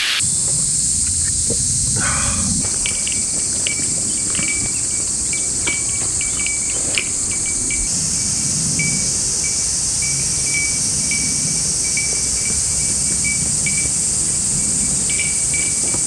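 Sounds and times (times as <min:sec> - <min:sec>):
high-pitched insect drone: 0:00.0 - 0:16.0
low wind rumble: 0:00.0 - 0:16.0.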